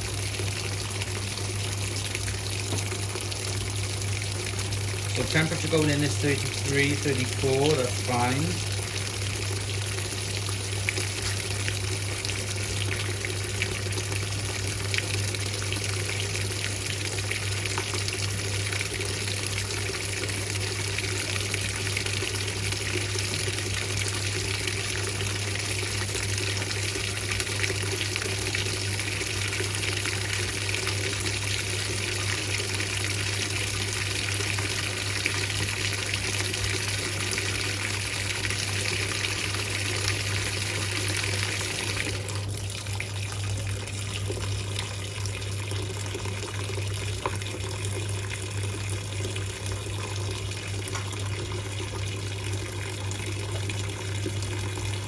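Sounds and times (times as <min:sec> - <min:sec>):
water pouring into washing machine: 0:00.0 - 0:55.0.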